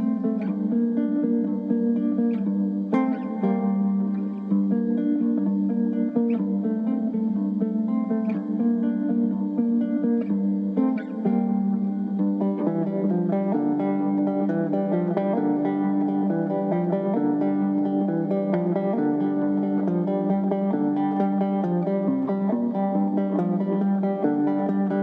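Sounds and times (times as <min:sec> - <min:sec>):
plucked acoustic guitar: 0:00.0 - 0:25.0.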